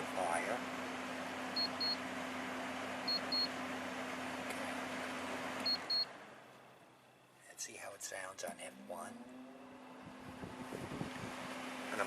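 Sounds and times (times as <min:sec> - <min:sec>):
air conditioner fan rushing: 0:00.0 - 0:07.1, 0:09.3 - 0:12.0.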